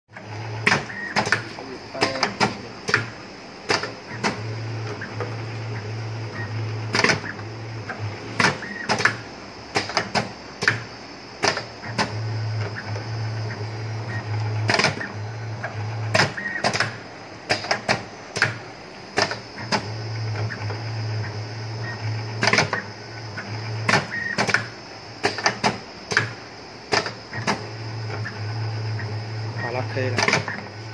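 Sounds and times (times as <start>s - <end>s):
machine motor hum: 0.1s - 30.9s.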